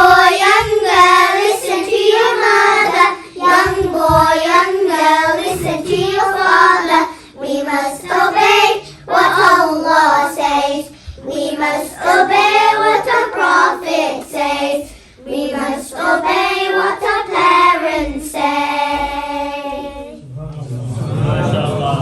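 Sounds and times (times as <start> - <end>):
young children singing: 0.0 - 20.3.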